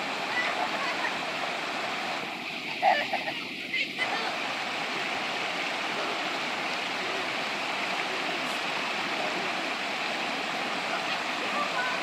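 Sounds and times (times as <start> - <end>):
river rushing over rapids: 0.0 - 12.0.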